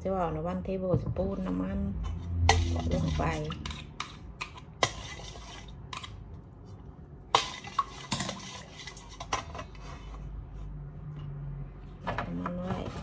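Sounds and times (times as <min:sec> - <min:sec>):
stirring in steel mixing bowl: 0:00.7 - 0:11.1.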